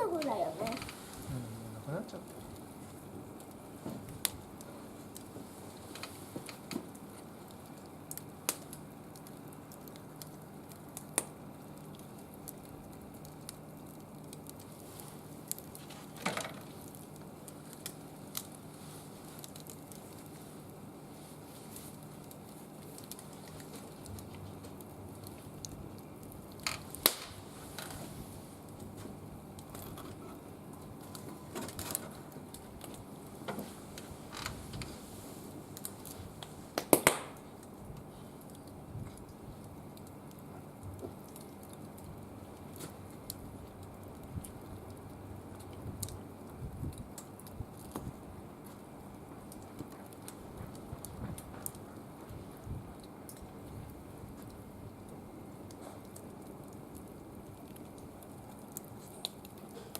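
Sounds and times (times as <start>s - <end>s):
fire crackles and pops: 0.0s - 59.9s
wood fire hissing: 0.0s - 59.9s.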